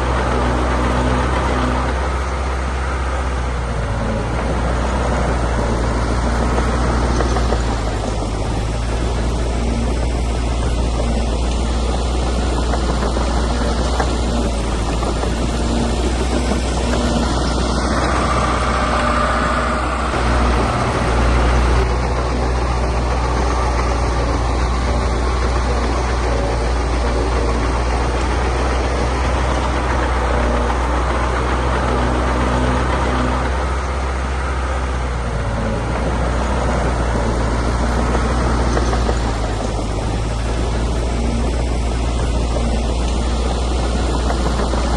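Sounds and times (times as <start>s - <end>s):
heavy machinery diesel engine running: 0.0s - 44.9s.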